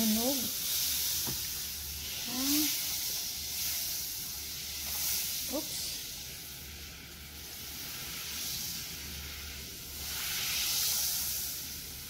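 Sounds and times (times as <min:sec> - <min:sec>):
butter sizzling in frying pan: 0:00.0 - 0:12.0.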